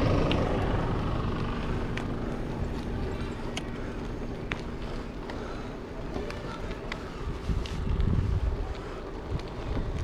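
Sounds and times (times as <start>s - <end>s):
bicycle tyres crunching on gravel: 0.0s - 10.0s.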